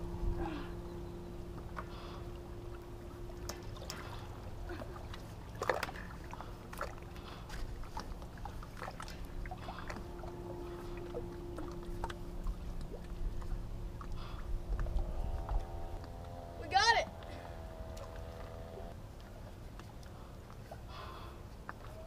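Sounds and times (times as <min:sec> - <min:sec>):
low rumble: 0:00.0 - 0:19.6
faint steady hum: 0:00.0 - 0:22.0
water lapping against rocks: 0:01.5 - 0:22.0.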